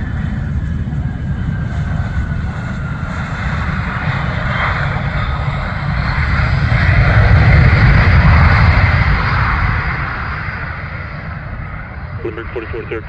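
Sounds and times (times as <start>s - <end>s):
jet engine rumble and hiss: 0.0s - 13.0s.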